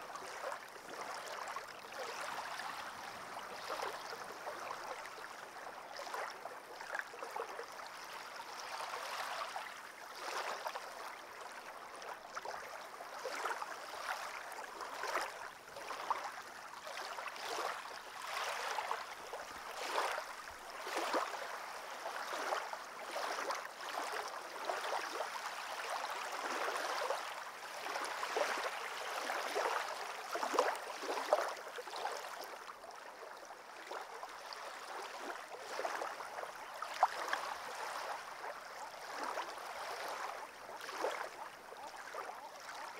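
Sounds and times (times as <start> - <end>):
water lapping at stony shore: 0.0 - 42.9.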